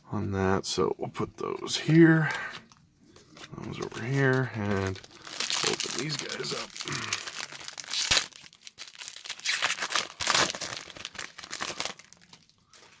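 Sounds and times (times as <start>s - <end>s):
wrapper tearing and crinkling: 2.3s - 13.0s.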